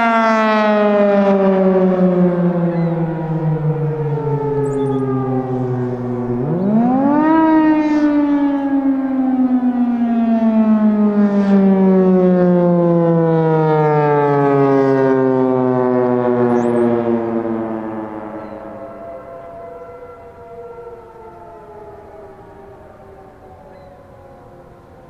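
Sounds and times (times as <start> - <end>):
civil defense siren wailing: 0.0 - 25.0.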